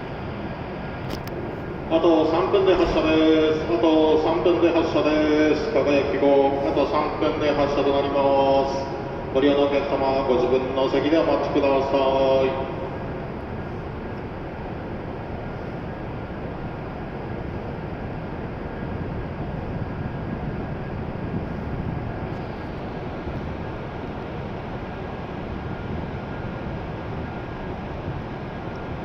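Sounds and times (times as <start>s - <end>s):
idling train mechanical hum: 0.0s - 29.0s.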